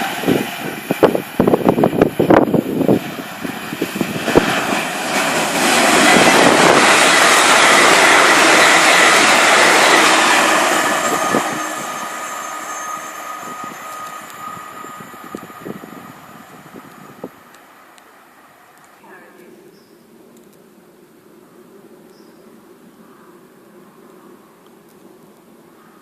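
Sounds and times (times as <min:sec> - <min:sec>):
train passing with loud roar: 0:00.0 - 0:25.9.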